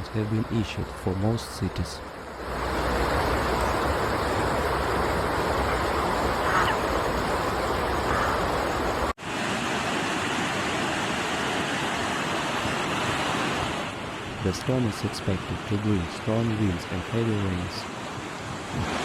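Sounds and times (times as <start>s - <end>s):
rushing water and wind: 0.0s - 19.0s.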